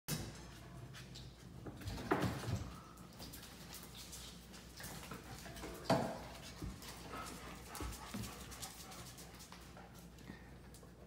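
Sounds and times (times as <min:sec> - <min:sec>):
animals scuffling on tile floor: 0:00.3 - 0:11.0.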